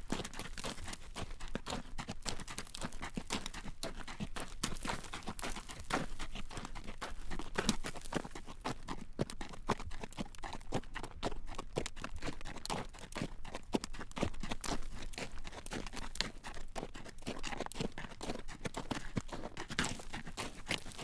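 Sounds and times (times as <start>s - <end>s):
horse hooves clip-clopping on road: 0.0s - 21.0s.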